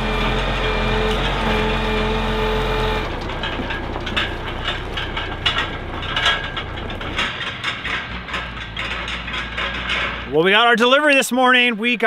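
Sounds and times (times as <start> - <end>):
diesel truck engine: 0.0 - 10.7
tyres over gravel: 0.0 - 11.7
trailer rattling and clanking: 0.0 - 12.0.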